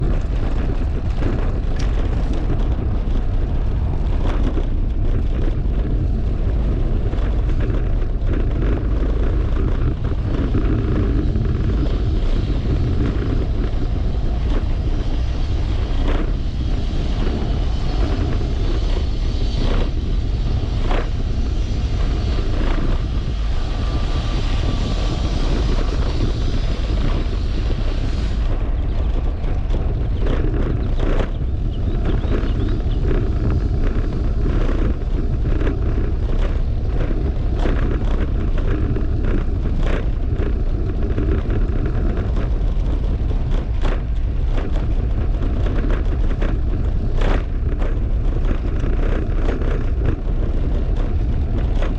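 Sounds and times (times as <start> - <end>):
tyre and road noise: 0.0 - 51.9
wind buffeting microphone: 0.0 - 51.9.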